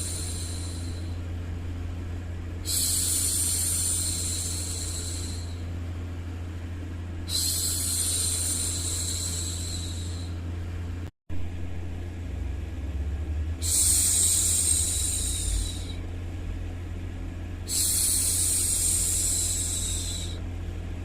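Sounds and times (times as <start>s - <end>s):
low white-noise hum: 0.0s - 21.0s.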